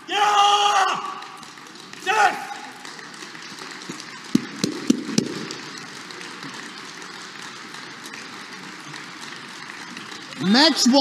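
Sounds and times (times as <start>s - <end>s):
sports hall hum: 0.0s - 11.0s.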